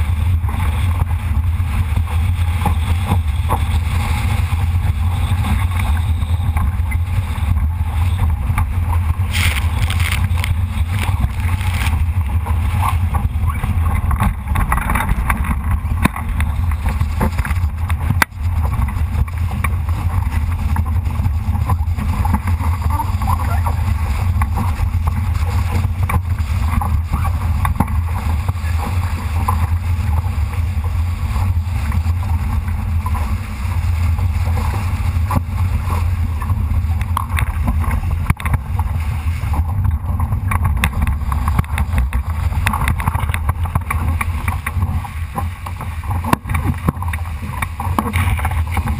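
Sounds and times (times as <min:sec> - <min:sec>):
water splashing along hull: 0:00.0 - 0:48.9
wind buffeting microphone: 0:00.0 - 0:48.9.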